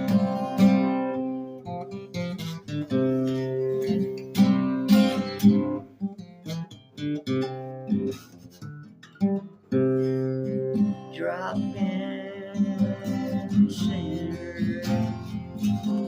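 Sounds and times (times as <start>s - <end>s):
acoustic guitar strummed: 0.0s - 16.0s.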